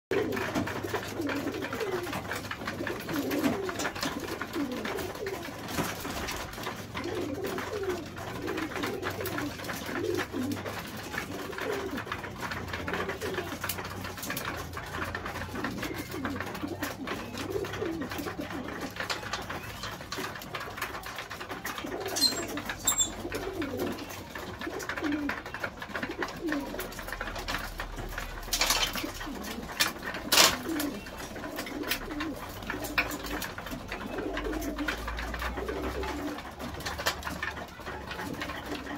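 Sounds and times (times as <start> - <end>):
pigeons cooing: 0.1 - 38.9.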